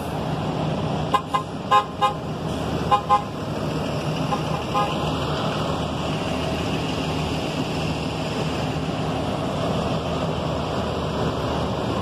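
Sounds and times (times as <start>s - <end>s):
broad rushing noise: 0.0s - 12.0s
bus engine hum: 0.0s - 12.0s.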